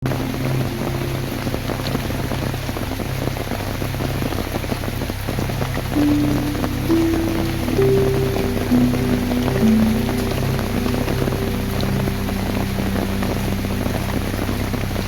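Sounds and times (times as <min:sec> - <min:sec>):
rain drops pattering: 0:00.0 - 0:15.0
soft music notes: 0:00.0 - 0:15.0.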